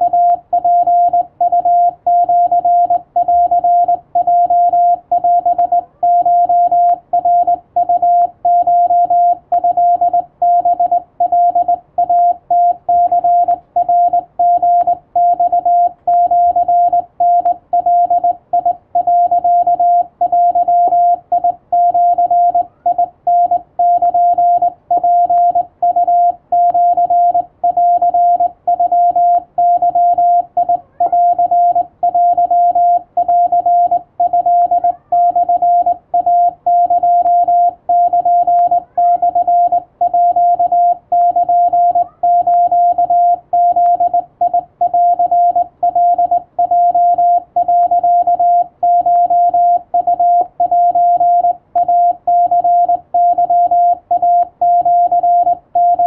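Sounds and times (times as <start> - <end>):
morse code beeping: 0.0 - 56.0.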